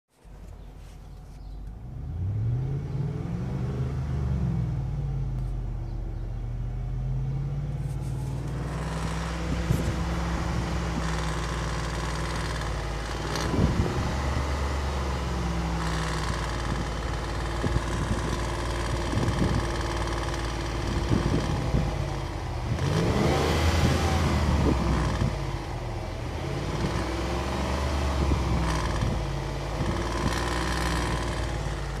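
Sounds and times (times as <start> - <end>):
car engine revving: 1.8 - 32.0
engine rattle: 4.8 - 32.0.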